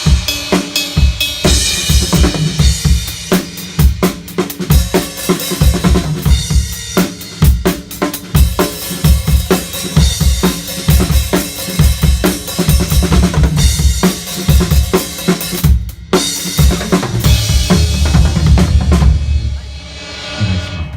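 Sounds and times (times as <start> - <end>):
drum kit playing: 0.0 - 20.9.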